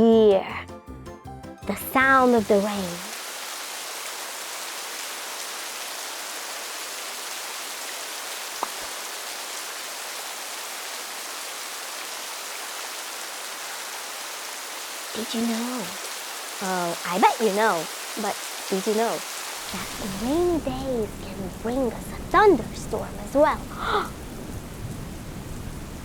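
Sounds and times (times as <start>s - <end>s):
steady rain falling: 1.9s - 26.0s.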